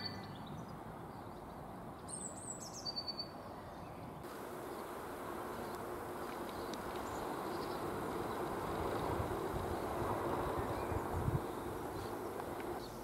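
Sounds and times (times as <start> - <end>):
faint outdoor background hiss: 0.0 - 13.0
small songbird chirping: 0.0 - 13.0.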